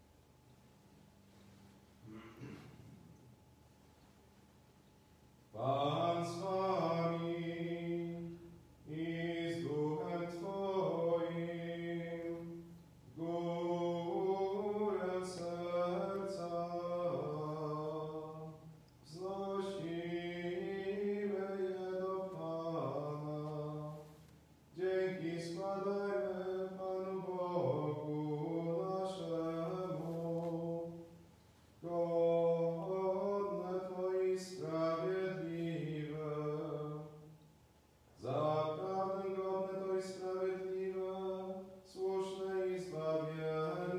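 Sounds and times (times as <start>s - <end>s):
man chanting: 5.6s - 24.1s, 24.8s - 31.0s, 31.8s - 37.2s, 38.2s - 43.9s.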